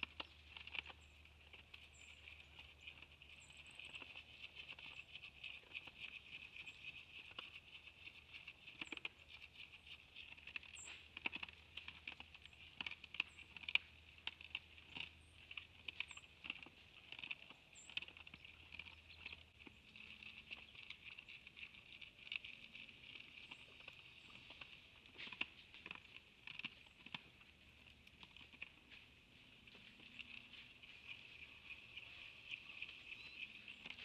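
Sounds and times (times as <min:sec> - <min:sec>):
deer crunching feed: 0:00.0 - 0:34.0.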